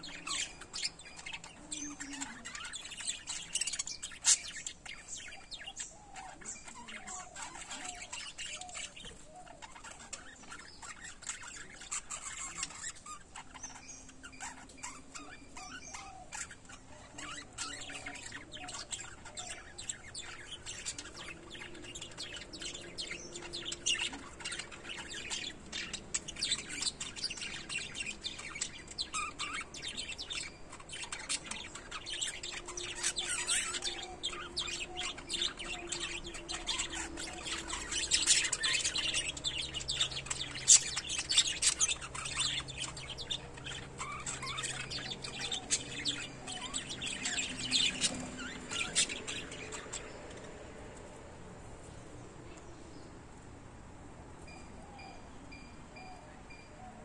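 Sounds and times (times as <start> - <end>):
parrots chirping and twittering: 0.0 - 57.0.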